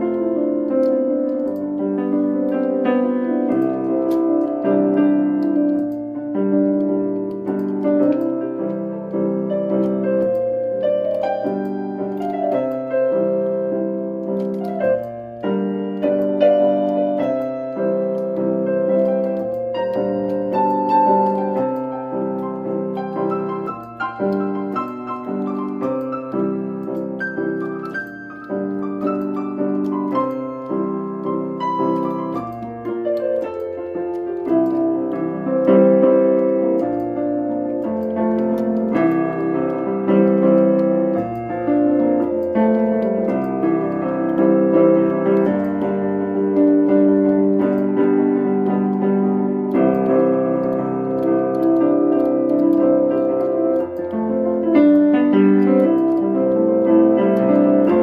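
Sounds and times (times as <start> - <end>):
electronic keyboard piano blues: 0.0 - 58.0.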